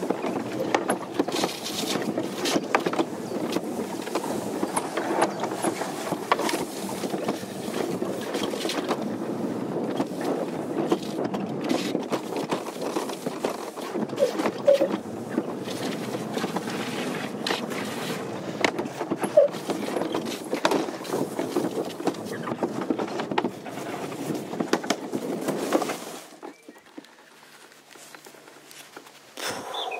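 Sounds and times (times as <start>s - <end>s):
sled rushing rumble in trough: 0.0s - 26.4s
sled clicks and knocks: 0.0s - 29.9s.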